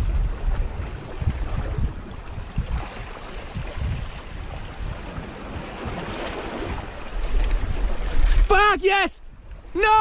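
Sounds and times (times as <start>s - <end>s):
small sea waves: 0.0s - 10.0s
wind buffeting microphone: 0.0s - 10.0s.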